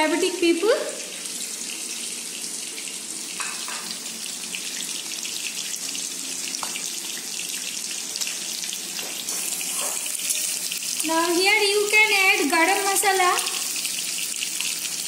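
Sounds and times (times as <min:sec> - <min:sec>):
fish sizzling in oil: 0:00.1 - 0:15.0.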